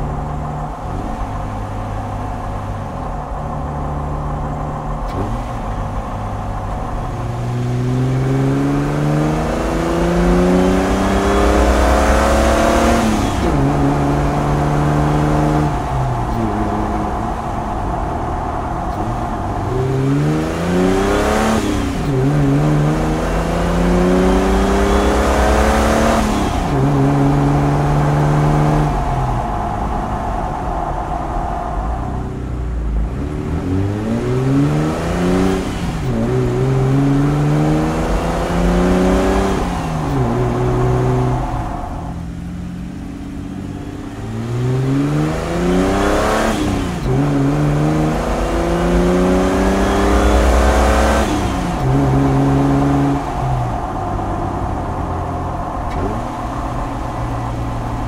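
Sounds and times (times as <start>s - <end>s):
car engine shifting through gears: 0.0s - 58.0s.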